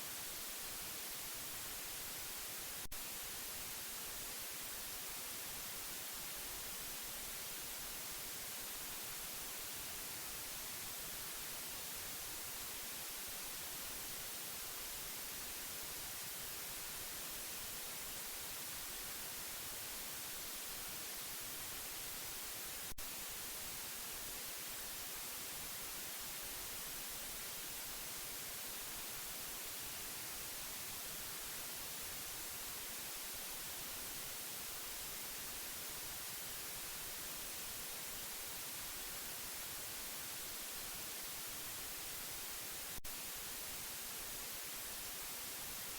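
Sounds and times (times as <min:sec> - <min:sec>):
white noise hiss: 0:00.0 - 0:45.9.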